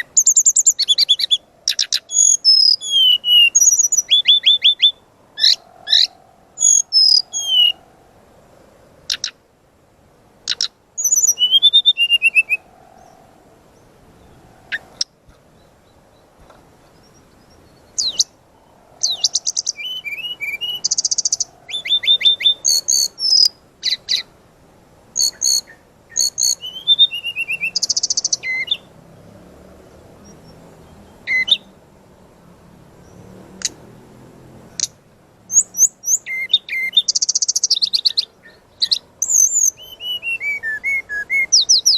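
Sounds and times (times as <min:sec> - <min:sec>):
bird singing varied song: 0:00.0 - 0:09.5, 0:10.4 - 0:41.9.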